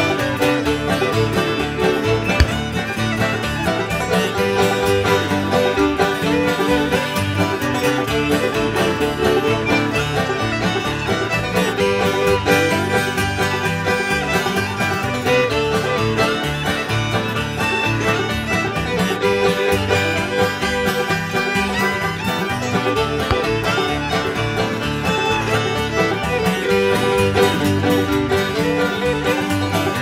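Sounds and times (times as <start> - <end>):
acoustic string band playing: 0.0 - 30.0.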